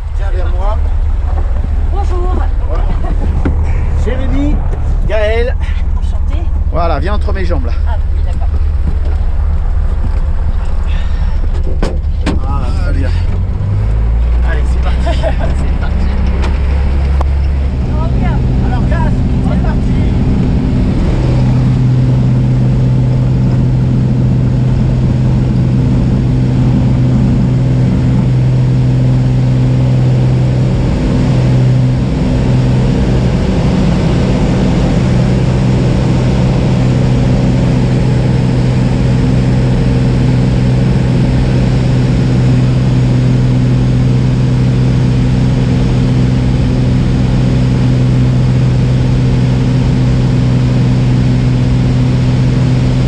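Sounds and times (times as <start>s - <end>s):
light aircraft engine drone: 0.0s - 53.0s.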